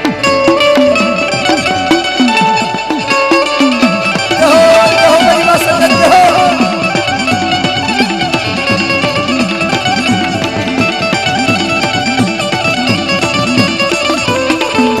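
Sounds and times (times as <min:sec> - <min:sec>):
devotional folk music: 0:00.0 - 0:15.0
plucked string melody: 0:00.0 - 0:15.0.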